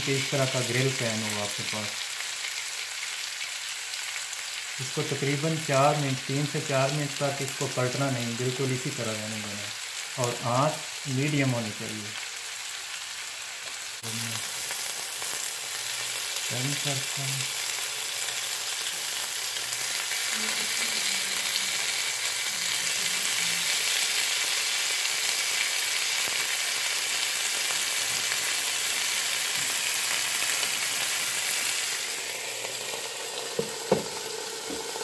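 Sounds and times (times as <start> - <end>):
chicken sizzling in a pan: 0.0 - 35.0.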